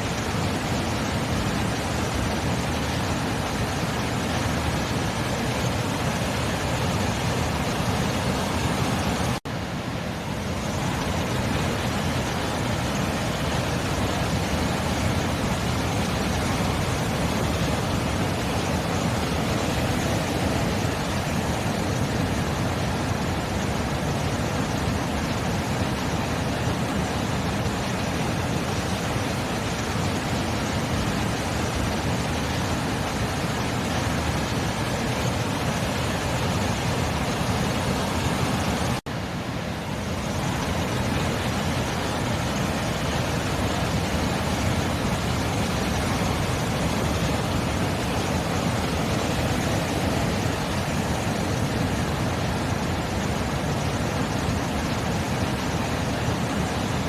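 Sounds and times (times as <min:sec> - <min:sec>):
sea surf roaring: 0:00.0 - 0:57.0.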